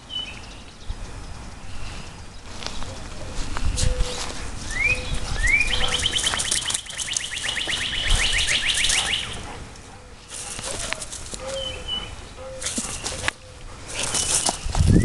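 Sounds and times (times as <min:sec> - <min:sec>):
songbird chirps and trill: 0:00.0 - 0:09.5, 0:10.2 - 0:15.0
low rumbling rustling noise: 0:00.0 - 0:15.0.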